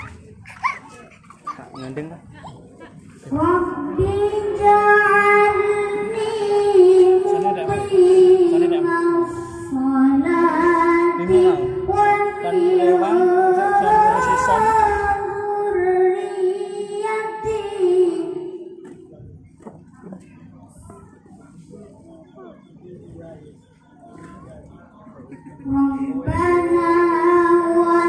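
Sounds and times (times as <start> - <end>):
boy reciting melodically into microphone: 0.0 - 23.4, 24.0 - 28.0.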